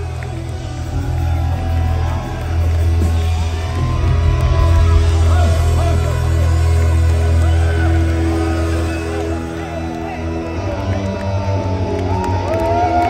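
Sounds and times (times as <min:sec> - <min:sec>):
audience whooping and shouting: 0:00.0 - 0:13.0
rock band with orchestra: 0:00.0 - 0:13.0.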